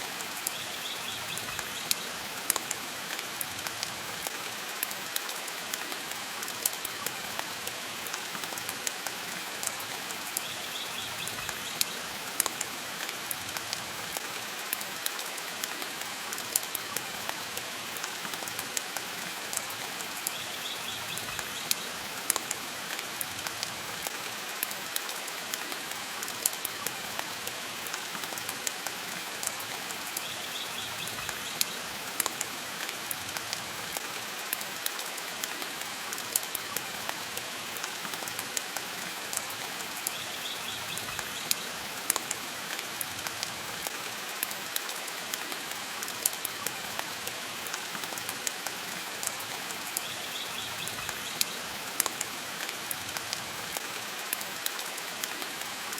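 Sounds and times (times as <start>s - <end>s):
rain hiss: 0.0s - 55.9s.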